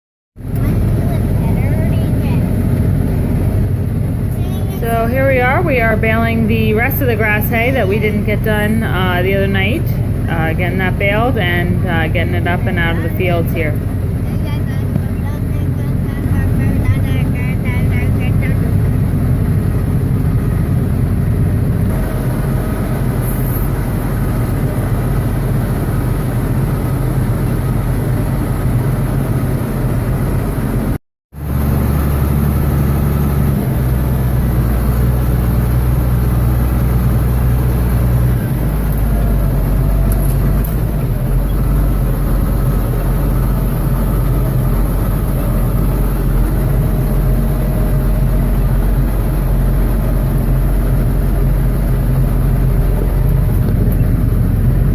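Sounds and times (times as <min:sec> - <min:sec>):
tractor and baler engine hum: 0:00.4 - 0:54.9.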